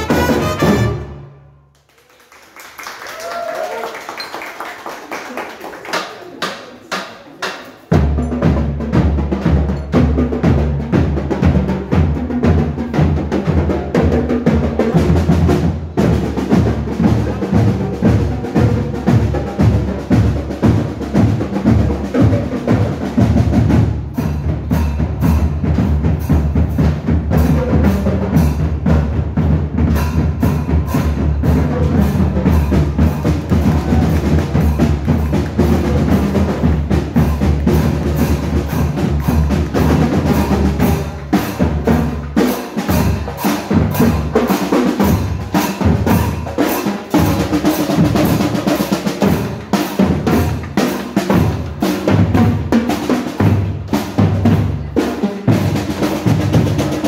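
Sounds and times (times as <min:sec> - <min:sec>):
marching band playing: 0:00.0 - 0:01.5, 0:07.8 - 0:57.0.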